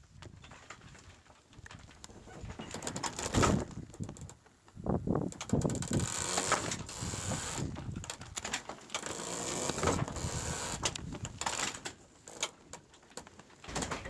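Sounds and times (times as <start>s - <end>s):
sails flapping: 0.0s - 4.6s, 5.2s - 14.0s
rigging clacking and rattling: 0.3s - 4.3s, 5.3s - 14.0s.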